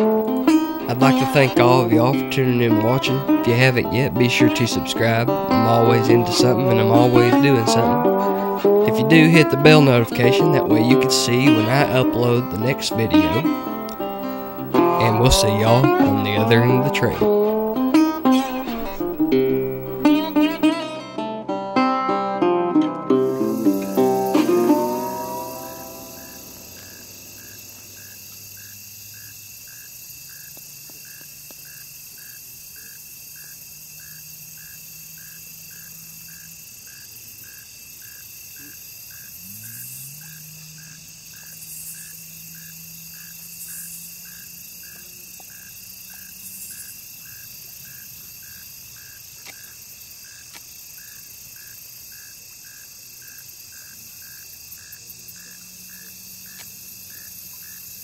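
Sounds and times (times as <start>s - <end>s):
regular insect chirp: 0.0s - 20.9s, 23.2s - 58.0s
raspy insect song bursts: 0.0s - 21.0s, 23.2s - 58.0s
high drone of insects: 0.0s - 21.2s, 23.1s - 58.0s.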